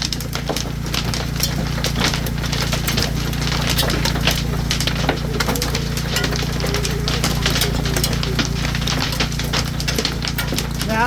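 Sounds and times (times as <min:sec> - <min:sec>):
hailstones pelting down: 0:00.0 - 0:11.0
low steady hum: 0:00.0 - 0:11.0.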